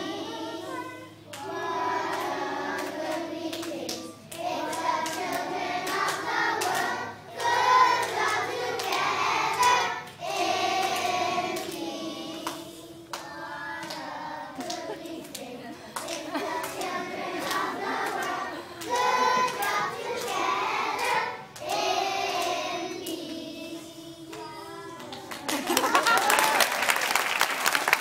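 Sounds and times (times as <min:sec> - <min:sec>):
children's choir singing: 0:00.0 - 0:25.7.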